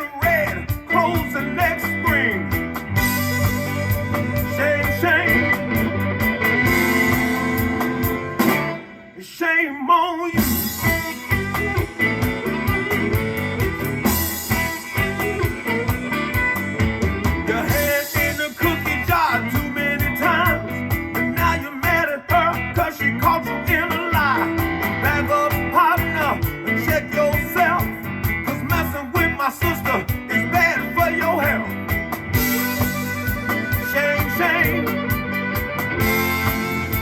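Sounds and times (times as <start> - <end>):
blues band playing over speakers: 0.0 - 37.0.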